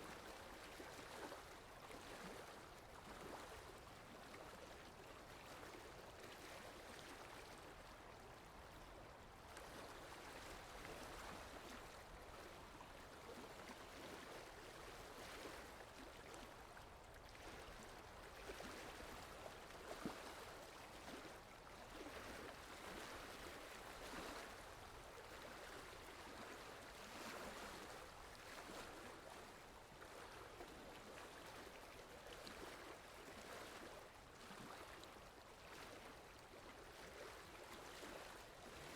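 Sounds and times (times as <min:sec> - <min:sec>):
water lapping gently: 0:00.0 - 0:38.9
wind: 0:00.0 - 0:38.9.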